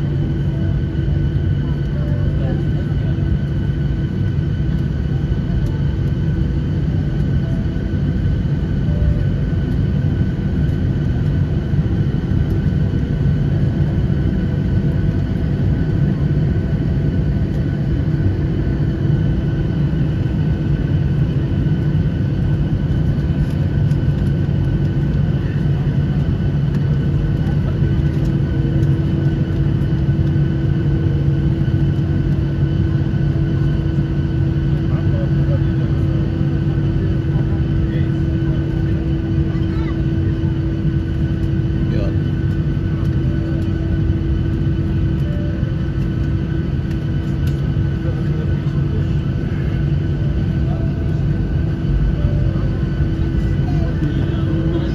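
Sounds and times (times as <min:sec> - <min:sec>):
jet engines idling: 0:00.0 - 0:54.9.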